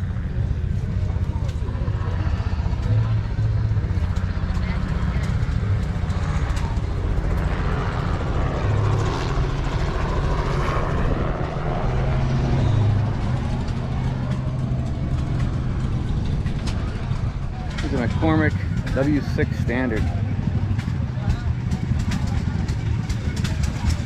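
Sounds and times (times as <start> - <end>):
piston engine humming: 0.0 - 24.0.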